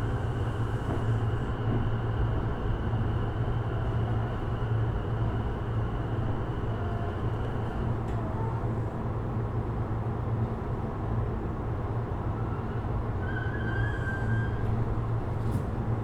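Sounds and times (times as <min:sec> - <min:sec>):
train car hum and rumble: 0:00.0 - 0:16.0.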